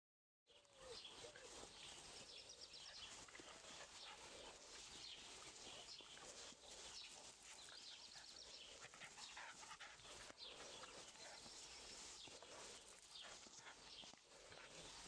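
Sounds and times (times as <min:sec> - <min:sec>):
soft rustle: 0:00.6 - 0:15.0.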